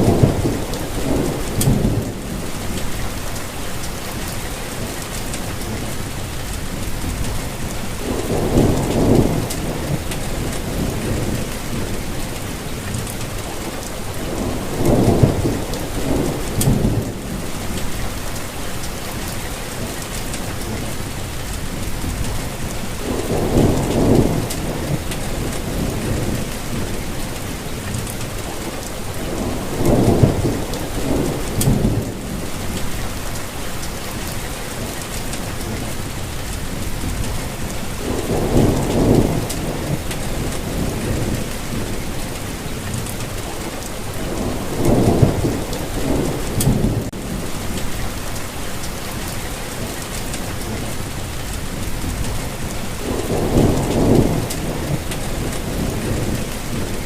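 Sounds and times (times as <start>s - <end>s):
distant thunder rumbles: 0.0s - 3.6s, 6.7s - 18.5s, 21.7s - 36.0s, 36.7s - 57.0s
steady rainfall: 0.0s - 57.0s.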